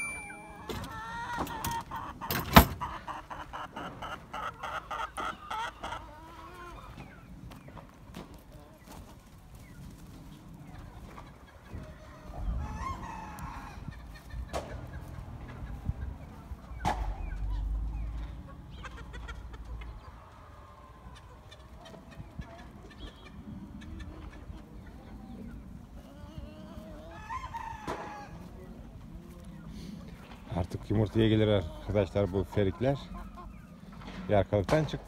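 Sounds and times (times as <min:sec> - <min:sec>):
chickens and roosters clucking: 0:00.0 - 0:35.0.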